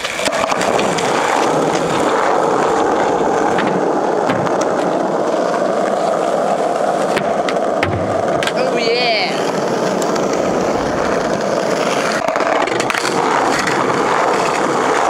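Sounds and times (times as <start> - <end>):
skateboard clicks: 0.0 - 15.0
skateboard wheels rolling on asphalt: 0.0 - 15.0.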